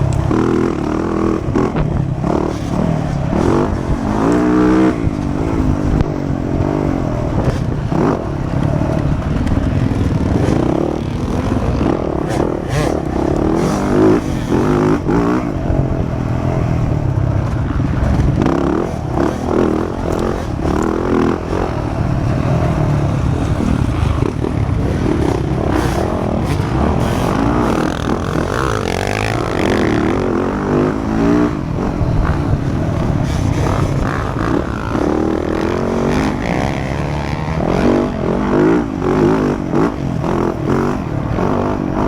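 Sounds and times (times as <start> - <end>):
motocross bike engine revving: 0.0 - 42.0.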